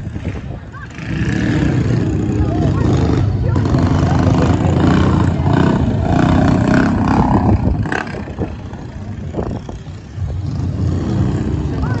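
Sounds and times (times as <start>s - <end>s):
mini bike engine passing: 0.0s - 12.0s.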